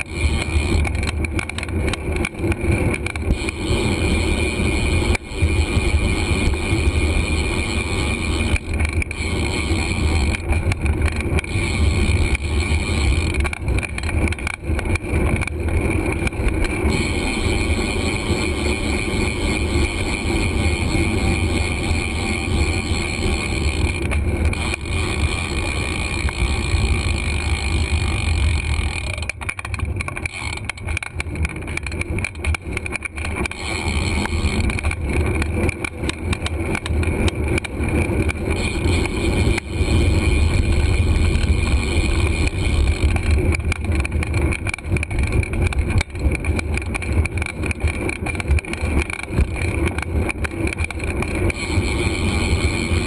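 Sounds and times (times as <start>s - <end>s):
road noise: 0.0s - 53.0s.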